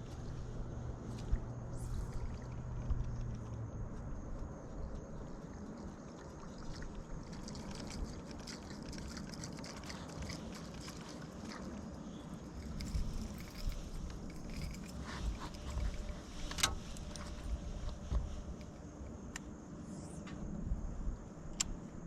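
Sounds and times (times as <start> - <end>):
low hum: 0.0 - 22.0
small ticks: 1.1 - 19.5.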